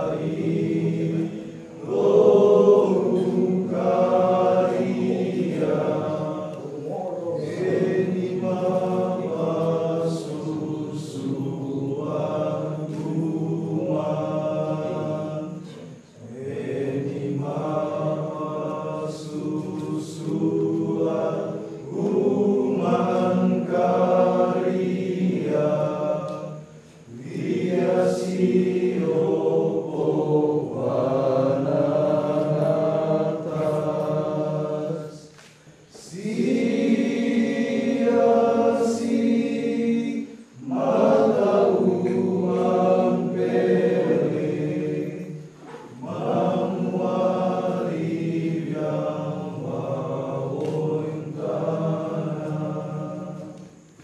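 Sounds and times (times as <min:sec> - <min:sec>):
voices chanting: 0:00.0 - 0:54.0.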